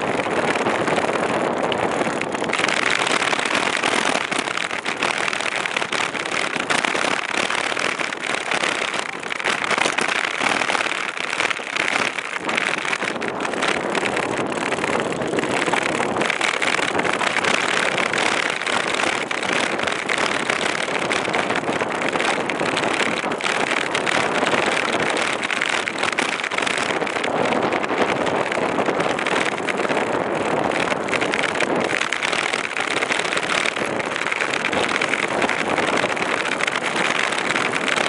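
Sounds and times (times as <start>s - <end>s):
wind rushing on microphone: 0.0s - 38.0s.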